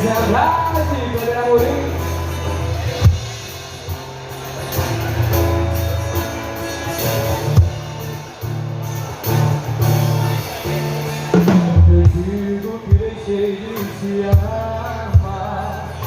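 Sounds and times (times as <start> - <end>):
strummed guitar: 0.0 - 16.0
sustained bass notes: 0.0 - 16.0.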